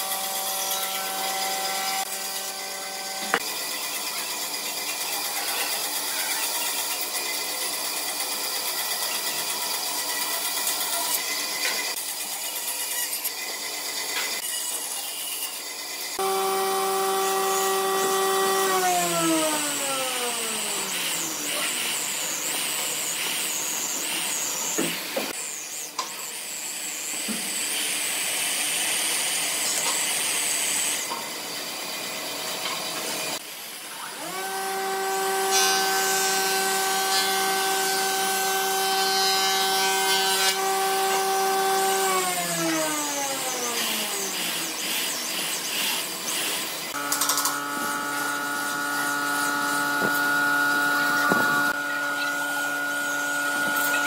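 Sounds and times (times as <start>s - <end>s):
electric drill boring into log: 0.0s - 12.1s, 13.1s - 25.8s, 34.2s - 54.0s.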